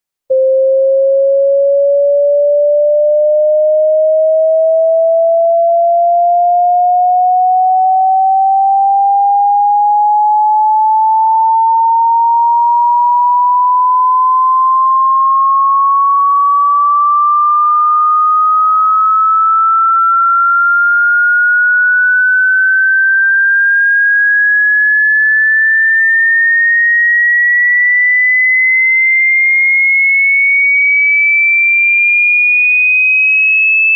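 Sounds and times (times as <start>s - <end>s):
sine tone sweeping upward: 0.3s - 33.9s.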